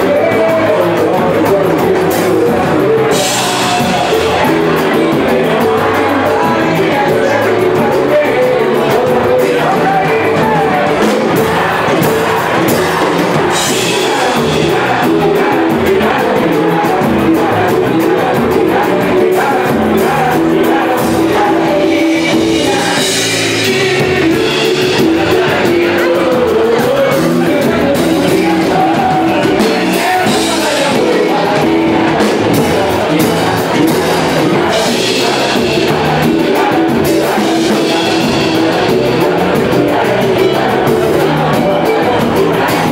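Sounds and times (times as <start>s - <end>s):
live samba band: 0.0s - 42.9s
percussion beat: 0.0s - 42.9s
person singing: 0.0s - 42.9s.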